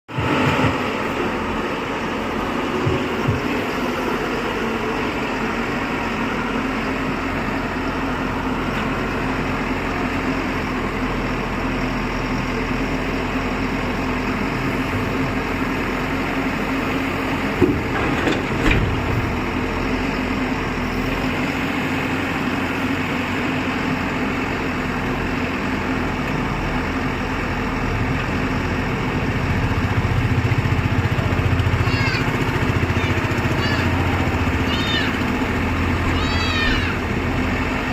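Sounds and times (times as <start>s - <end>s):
diesel engine running: 0.1s - 37.9s.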